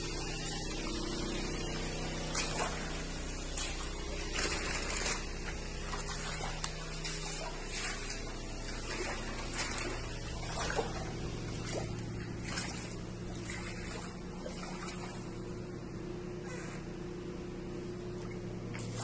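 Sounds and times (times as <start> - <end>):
floodwater rushing: 0.0 - 15.8, 18.1 - 19.0
water splashes: 0.0 - 17.0, 17.6 - 19.0
low steady hum: 0.0 - 19.0.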